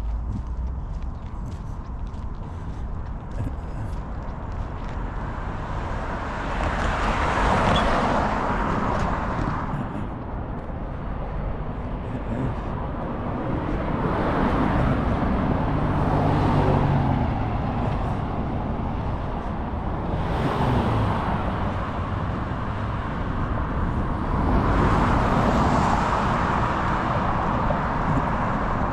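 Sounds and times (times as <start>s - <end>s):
cars passing: 0.0s - 28.9s.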